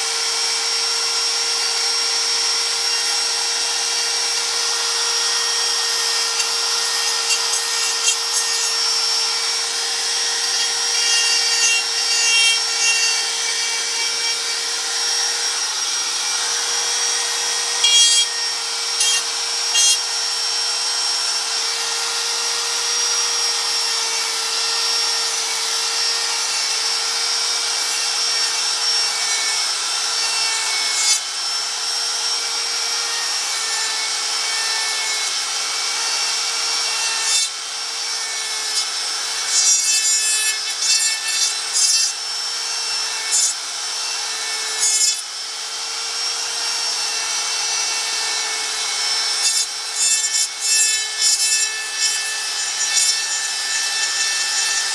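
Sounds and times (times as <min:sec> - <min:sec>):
power sander on wood: 0:00.0 - 0:54.9.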